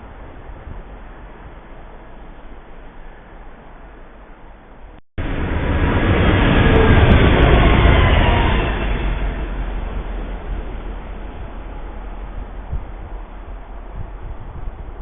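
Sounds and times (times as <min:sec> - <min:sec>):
faint wind noise: 0:00.0 - 0:15.0
train passing: 0:00.0 - 0:15.0.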